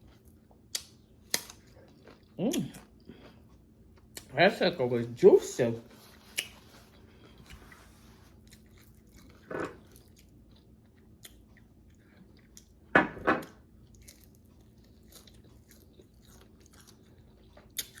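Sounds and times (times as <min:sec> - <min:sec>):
chewing crispy chicken: 0:00.0 - 0:12.9, 0:13.5 - 0:18.0.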